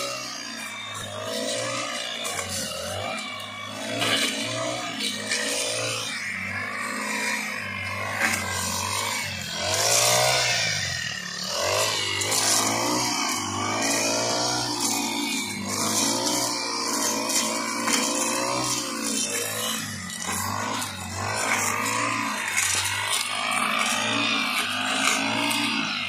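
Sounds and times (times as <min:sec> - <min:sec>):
brush cutter engine revving: 0:00.0 - 0:26.0.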